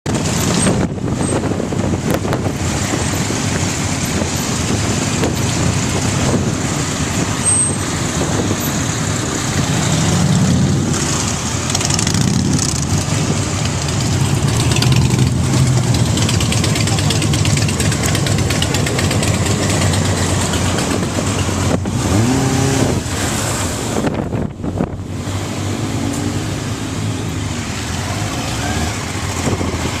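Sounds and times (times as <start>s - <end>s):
motorcycle engines running: 0.1s - 30.0s.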